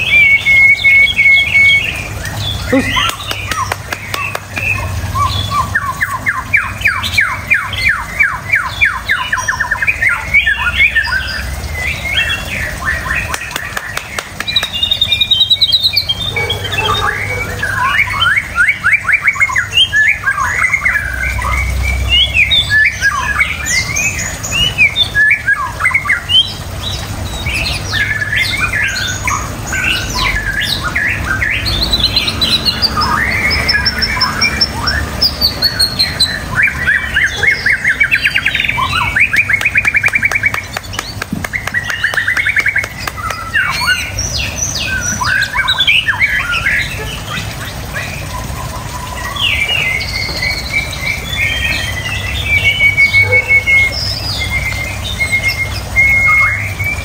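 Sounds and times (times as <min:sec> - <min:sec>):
songbird singing whistles and trills: 0:00.0 - 0:26.6, 0:27.5 - 0:47.0, 0:47.9 - 0:57.0.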